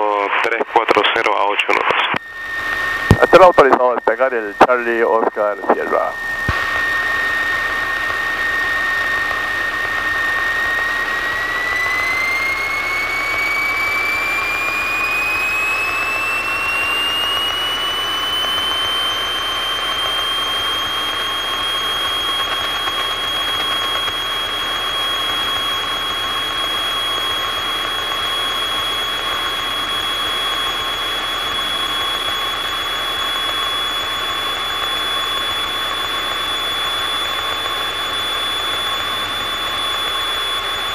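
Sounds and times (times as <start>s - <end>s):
high engine whine: 0.0s - 40.9s
propeller aircraft engine drone: 0.0s - 40.9s.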